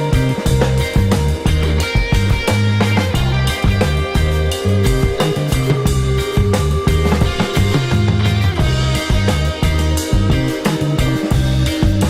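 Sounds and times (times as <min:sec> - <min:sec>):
rock music with guitar and drums: 0:00.0 - 0:12.0.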